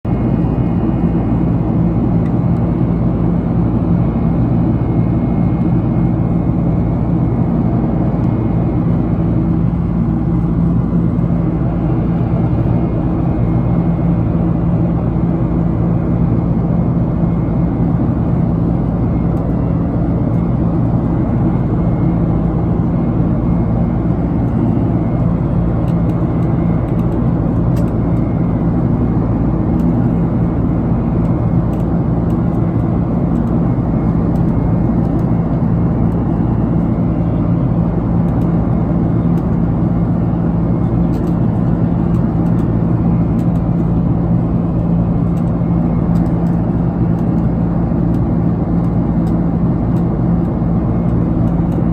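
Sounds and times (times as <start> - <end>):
jet airliner cabin drone: 0.1 - 51.9.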